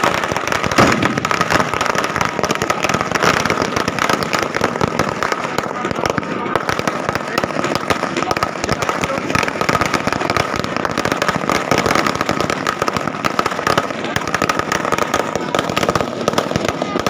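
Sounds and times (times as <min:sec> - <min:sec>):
firecrackers crackling: 0:00.0 - 0:17.0.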